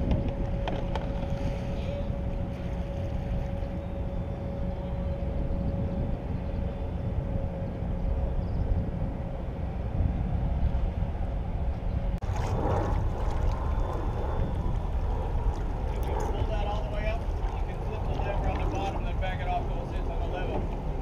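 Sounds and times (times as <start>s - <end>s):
open water rumble: 0.0s - 21.0s.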